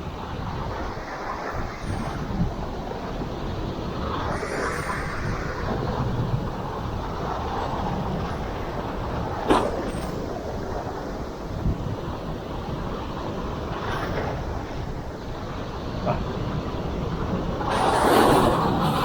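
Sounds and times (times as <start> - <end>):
choppy sea water: 0.0 - 19.0
wind buffeting microphone: 0.0 - 19.0.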